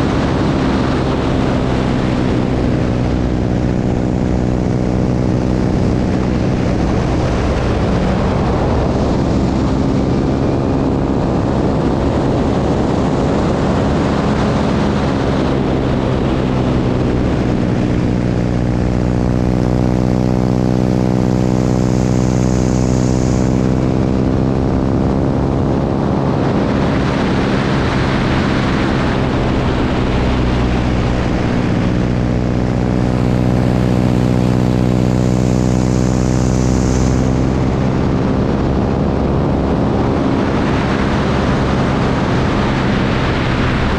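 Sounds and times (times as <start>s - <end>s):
propeller airplane engine drone: 0.0s - 43.9s
rushing airstream: 0.0s - 43.9s.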